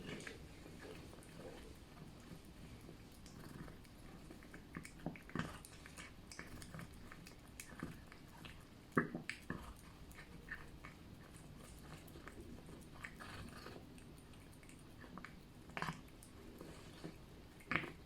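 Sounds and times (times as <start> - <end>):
cat licking and chewing: 0.0 - 18.0.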